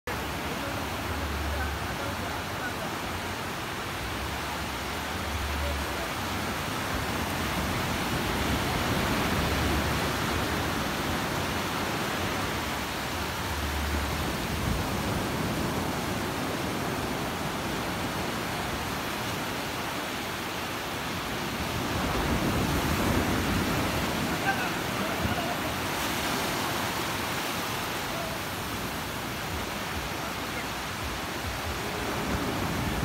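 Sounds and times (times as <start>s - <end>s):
sea surf washing on beach: 0.1s - 33.0s.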